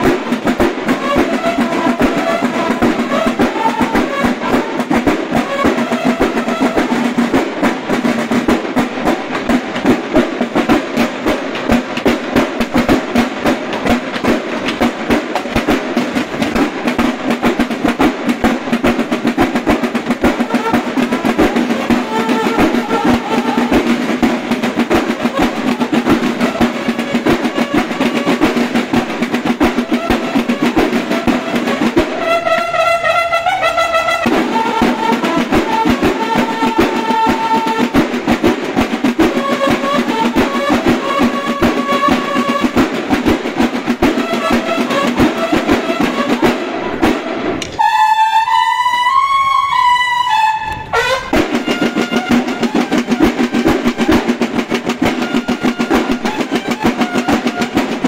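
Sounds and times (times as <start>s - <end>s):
bugles sounding calls: 0.0s - 58.0s
snare drum line playing: 0.0s - 58.0s.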